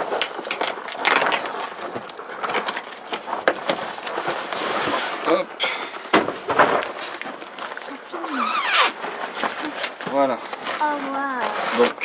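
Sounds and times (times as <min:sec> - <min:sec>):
small clicks and scrapes: 0:00.0 - 0:05.8, 0:06.5 - 0:12.0
fabric cover rustling: 0:00.0 - 0:12.0.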